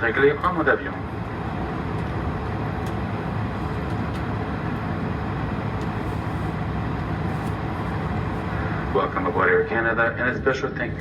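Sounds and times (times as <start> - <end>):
airliner cabin hum: 0.0 - 11.0.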